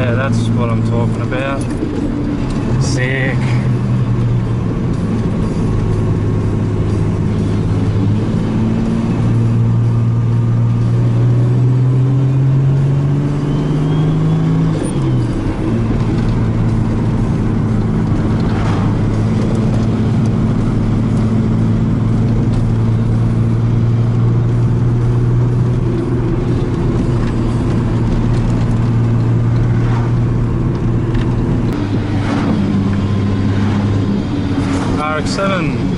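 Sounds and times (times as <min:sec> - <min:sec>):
turbocharged car engine revving: 0:00.0 - 0:35.9.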